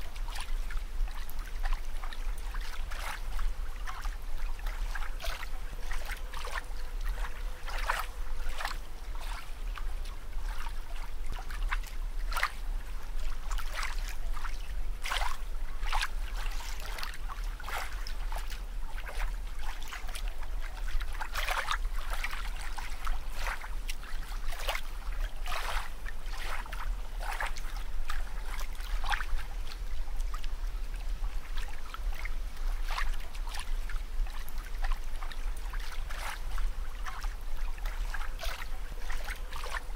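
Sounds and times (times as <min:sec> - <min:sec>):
steady low hum: 0:00.0 - 0:39.9
water bubbling and splashing: 0:00.0 - 0:39.9.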